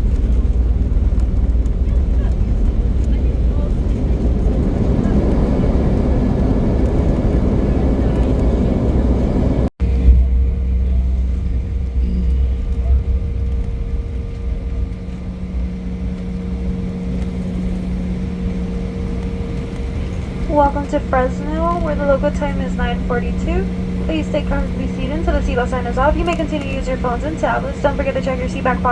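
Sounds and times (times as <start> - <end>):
jet engine hum with tones: 0.0 - 28.9
jet engines rumbling: 0.0 - 28.9.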